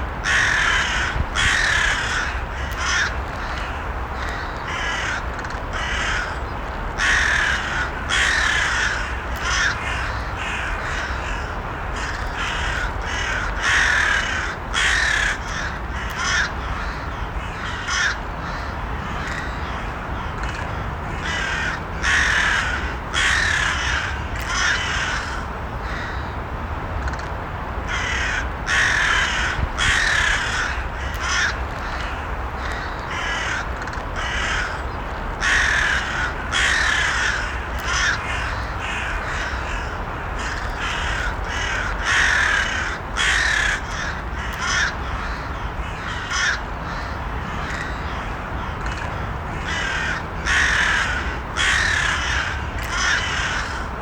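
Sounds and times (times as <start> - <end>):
crows cawing: 0.2 - 26.3, 27.9 - 54.0.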